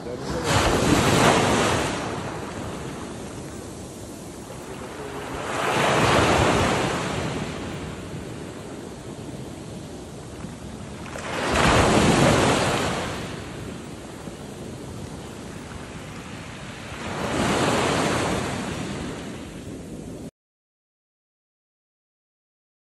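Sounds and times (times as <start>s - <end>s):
sea waves breaking on shore: 0.0s - 20.3s
wind on microphone: 0.0s - 20.3s.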